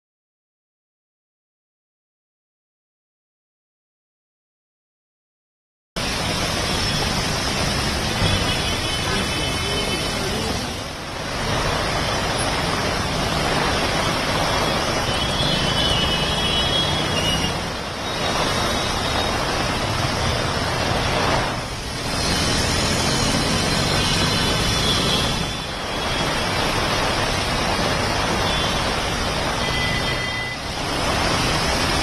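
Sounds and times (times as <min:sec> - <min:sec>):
heavy rain: 0:06.0 - 0:32.0
traffic on wet road: 0:06.0 - 0:32.0.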